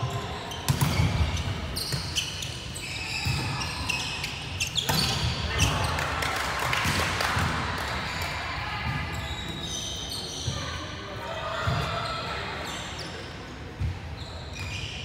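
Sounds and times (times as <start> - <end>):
sneakers squeaking: 0.0 - 6.0, 7.4 - 15.0.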